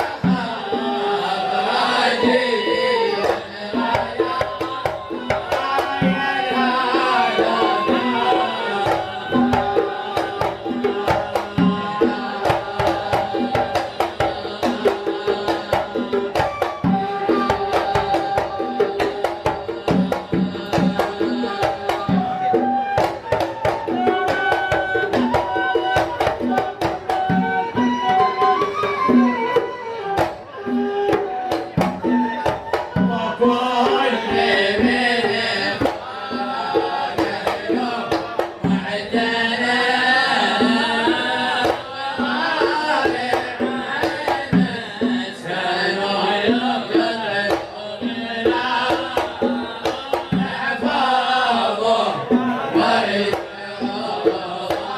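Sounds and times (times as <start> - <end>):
hand-drum beats: 0.0 - 54.9
voices chanting a melody: 0.0 - 54.9.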